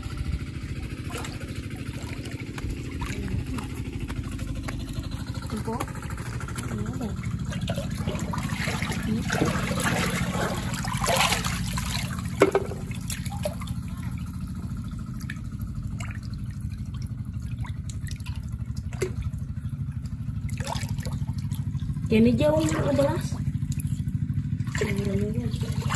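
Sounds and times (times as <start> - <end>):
muddy water splashing: 0.0 - 25.9
steady low hum: 0.0 - 25.9.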